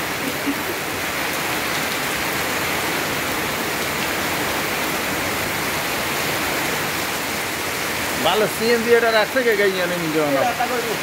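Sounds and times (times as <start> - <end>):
heavy rain on metal roofs: 0.0 - 11.0
water running off eaves: 0.0 - 11.0.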